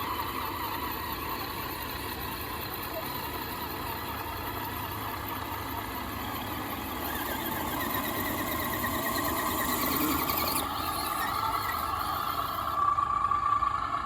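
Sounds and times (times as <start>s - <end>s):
electric motor and gears whining: 0.0s - 13.9s.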